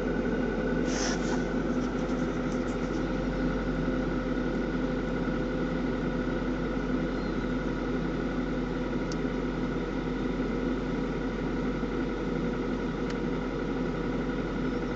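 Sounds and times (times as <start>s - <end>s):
car engine idling: 0.0s - 14.9s
power steering whine: 0.0s - 14.9s.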